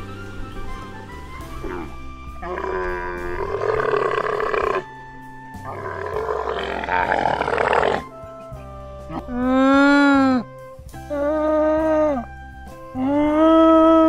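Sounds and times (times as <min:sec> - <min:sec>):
background music: 0:00.0 - 0:14.0
camel bellowing: 0:00.6 - 0:14.0.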